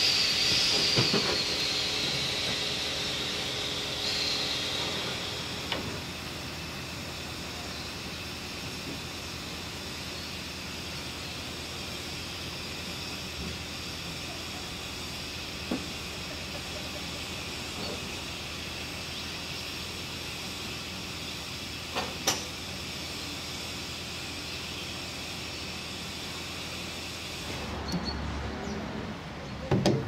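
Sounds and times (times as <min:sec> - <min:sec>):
steam locomotive hissing: 0:00.0 - 0:29.6.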